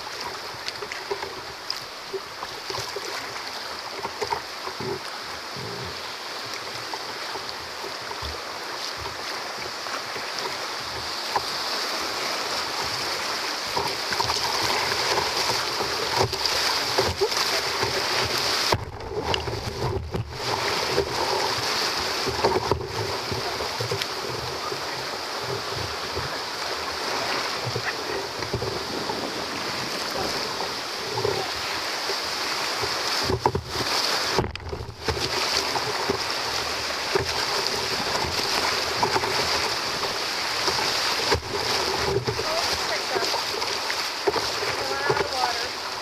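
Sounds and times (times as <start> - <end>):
rushing whitewater: 0.0 - 46.0
water splashing around kayak: 0.0 - 46.0.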